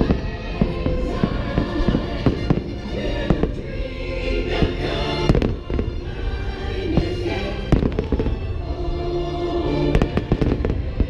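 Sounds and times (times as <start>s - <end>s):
fireworks bursting with sharp bangs: 0.0s - 9.0s, 9.6s - 11.0s.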